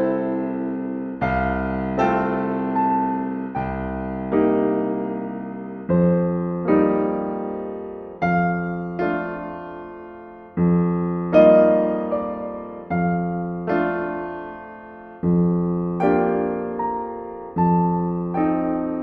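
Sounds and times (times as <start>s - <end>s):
gentle solo piano: 0.0s - 19.0s.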